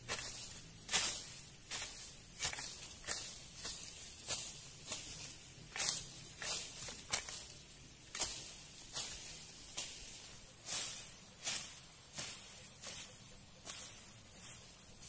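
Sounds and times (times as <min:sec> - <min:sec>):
blade scraping through earth: 0:00.0 - 0:15.0
hand hoe chopping into soil: 0:00.1 - 0:14.0.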